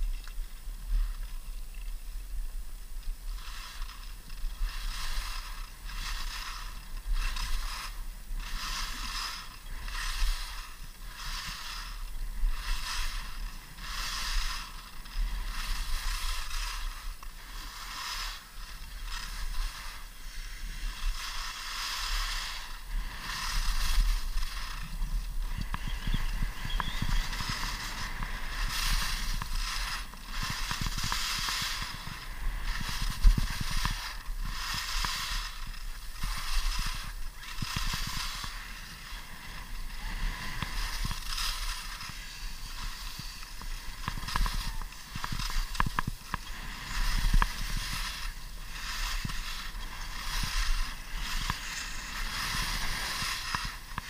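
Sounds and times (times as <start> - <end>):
skis scraping on snow: 0.0 - 54.0
steady low rumble: 0.0 - 54.0.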